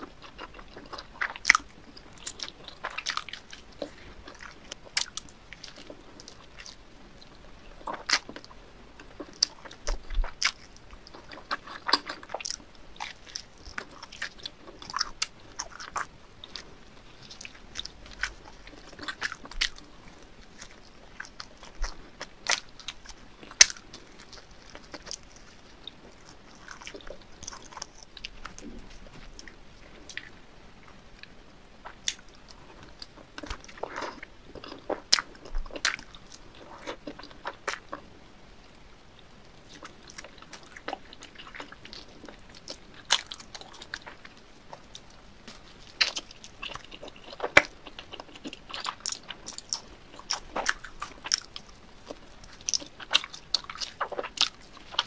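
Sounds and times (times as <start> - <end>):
pizza being bitten and chewed: 0.0 - 55.0.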